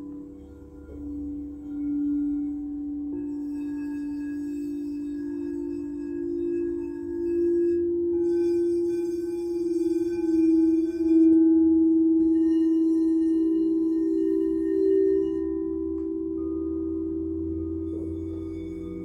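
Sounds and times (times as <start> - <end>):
deep singing bowl tone: 0.0 - 19.0
higher singing bowl ringing: 0.0 - 19.0.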